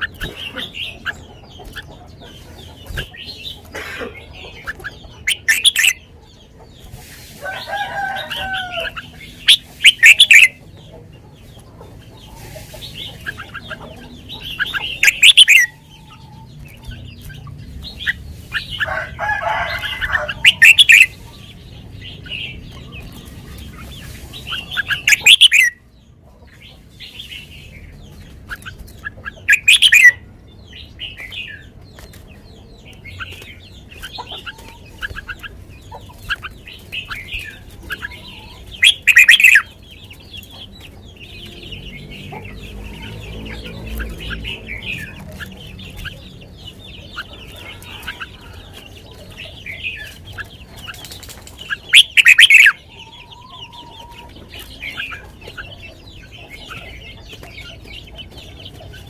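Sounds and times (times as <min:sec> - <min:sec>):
bulbul singing: 0:00.0 - 0:06.8, 0:07.8 - 0:59.0.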